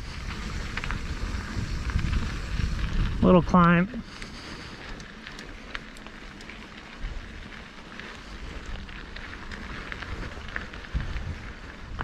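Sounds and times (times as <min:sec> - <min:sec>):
bike tyres crackling on dirt: 0:00.0 - 0:12.0
small ticks and clicks: 0:00.0 - 0:12.0.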